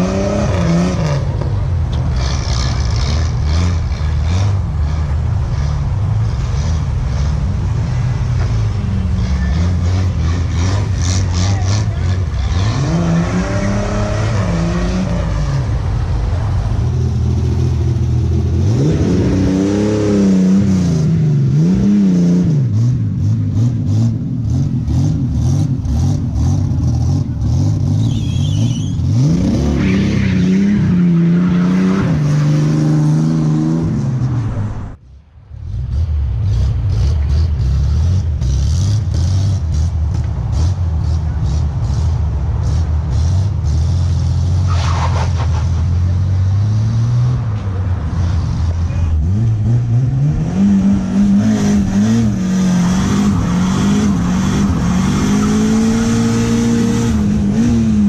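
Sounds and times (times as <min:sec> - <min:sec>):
turbocharged car engine revving: 0:00.0 - 0:35.0, 0:35.6 - 0:58.0.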